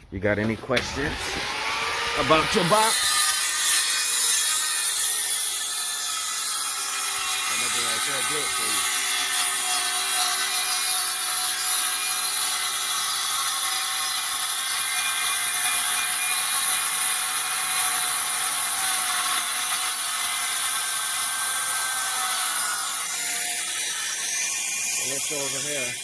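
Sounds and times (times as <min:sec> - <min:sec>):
power tool cutting wood: 0:00.7 - 0:26.0.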